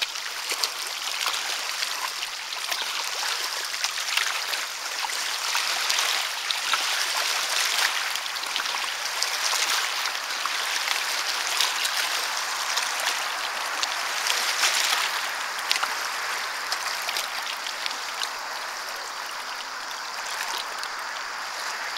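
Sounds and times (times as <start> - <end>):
seawater washing over pebbles: 0.0 - 21.9.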